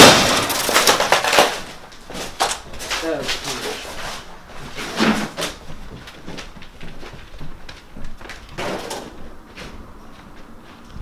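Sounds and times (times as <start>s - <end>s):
footsteps on debris-strewn floor: 0.0s - 11.0s.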